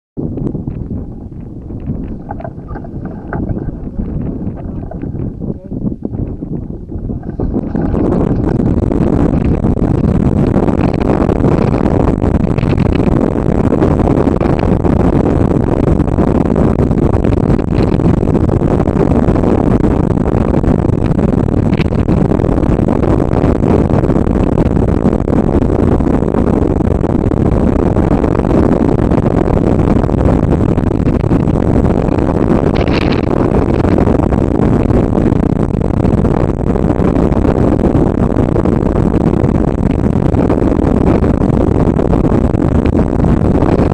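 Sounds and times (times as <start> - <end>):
wind buffeting microphone: 0.2 - 43.9.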